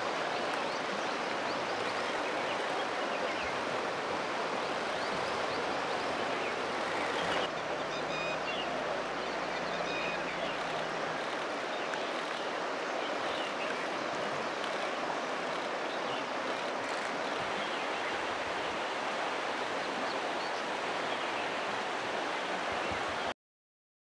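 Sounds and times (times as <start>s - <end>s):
river water rushing: 0.0s - 23.3s.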